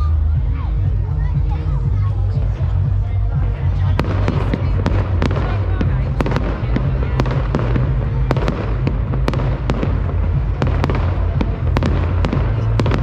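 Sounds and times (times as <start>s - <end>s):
low rumble: 0.0s - 13.0s
fireworks bangs and crackles: 2.4s - 13.0s.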